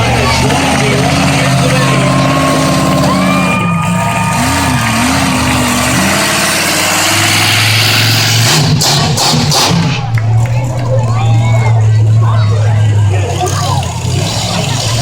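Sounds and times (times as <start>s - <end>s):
large truck engine idling: 0.0s - 15.0s.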